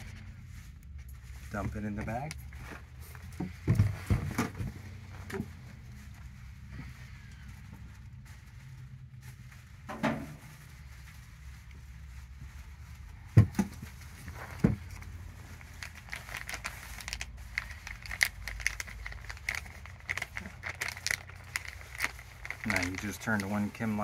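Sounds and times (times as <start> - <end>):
plastic bag crinkling: 4.4 - 24.0.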